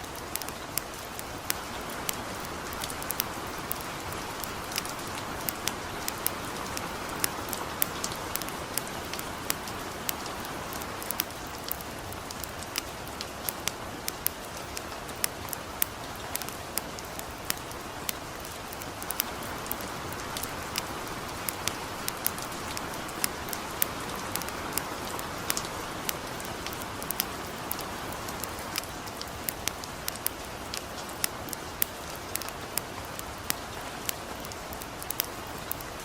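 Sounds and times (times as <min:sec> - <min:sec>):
campfire crackling: 0:00.0 - 0:36.0
light rain hissing: 0:00.0 - 0:36.0.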